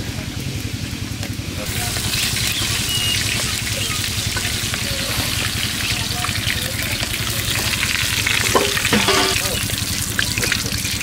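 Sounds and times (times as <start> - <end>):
curry simmering and sizzling in a pan: 1.2 - 11.0.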